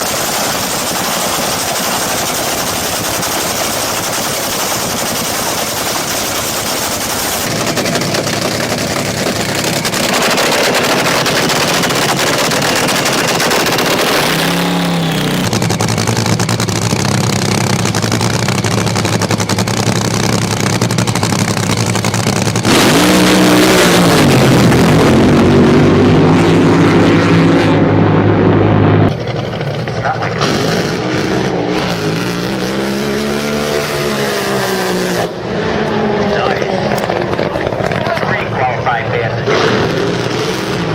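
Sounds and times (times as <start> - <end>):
racing boat engine running hard: 0.0 - 40.9.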